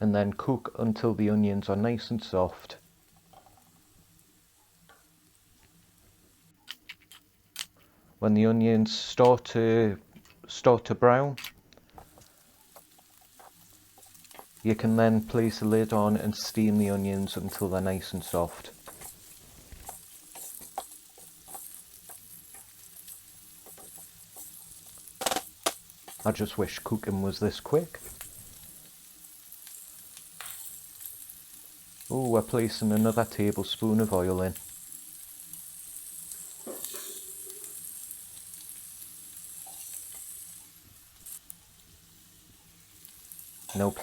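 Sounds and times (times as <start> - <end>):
onions sizzling in pan: 0.0 - 6.6, 12.0 - 44.0.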